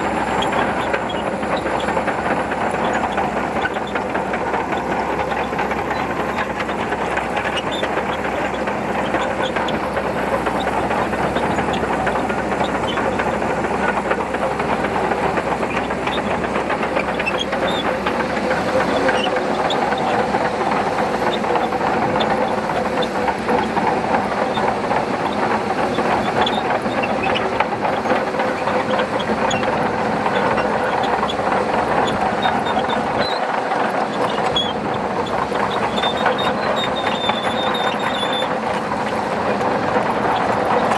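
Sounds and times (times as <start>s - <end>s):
bulldozer diesel engine running: 0.0s - 40.9s
metallic clanking of tracks: 0.0s - 40.9s.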